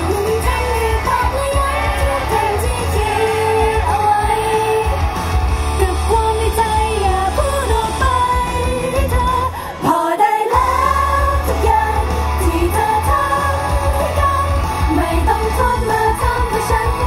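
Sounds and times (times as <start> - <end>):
pop song with female vocals: 0.0 - 17.0.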